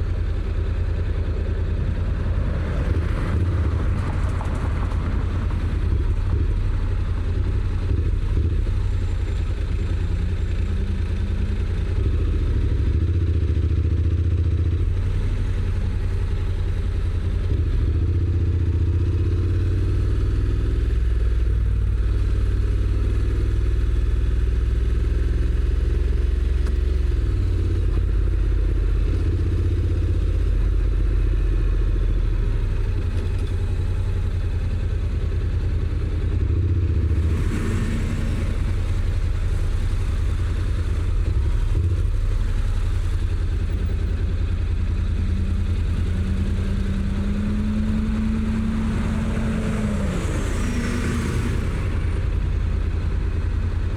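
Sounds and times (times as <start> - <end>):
motorcycle engine while riding: 0.0 - 53.9
road and wind noise: 0.0 - 53.9.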